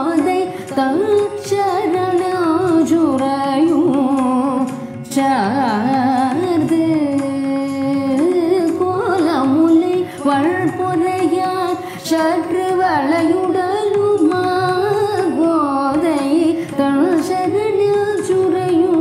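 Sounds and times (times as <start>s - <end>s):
woman singing with ornaments: 0.0s - 19.0s.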